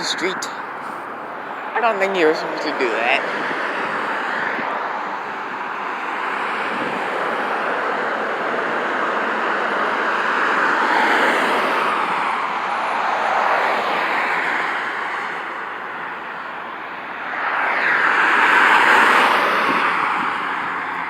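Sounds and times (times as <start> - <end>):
traffic driving past: 0.0 - 21.0.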